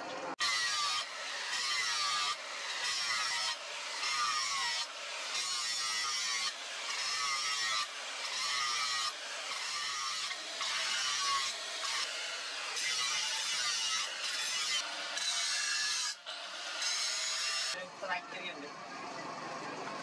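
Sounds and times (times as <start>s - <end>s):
angle grinder sanding steel blade: 0.4s - 17.8s.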